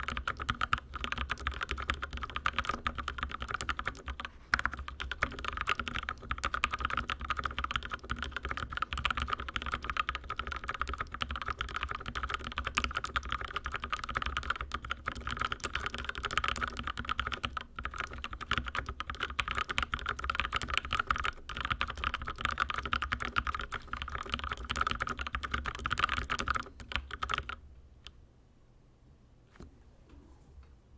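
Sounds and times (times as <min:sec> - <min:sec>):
fast typing on mechanical keyboard: 0:00.0 - 0:27.6.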